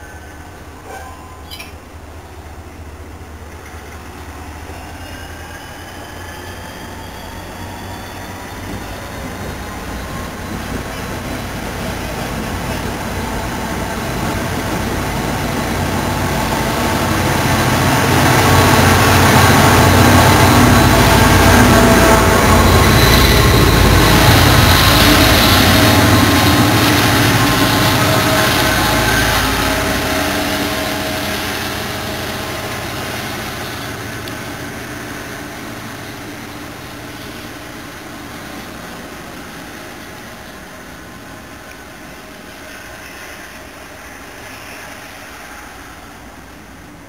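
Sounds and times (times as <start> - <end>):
diesel locomotive engine drone: 0.0 - 47.0
train coaches rolling by: 0.0 - 47.0.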